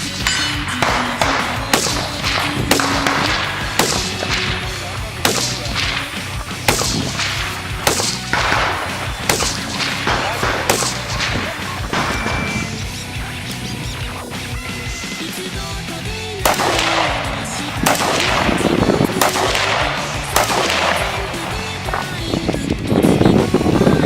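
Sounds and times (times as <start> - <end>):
rifle shots echoing: 0.0 - 13.6, 16.4 - 22.4
background music: 0.0 - 24.0.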